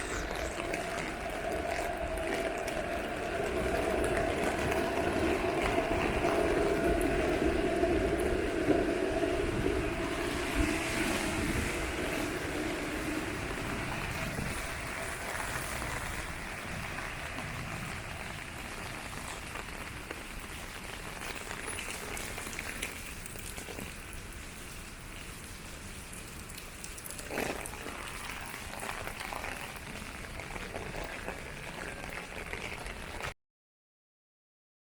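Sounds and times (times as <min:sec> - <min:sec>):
rain falling on pavement: 0:00.0 - 0:33.4.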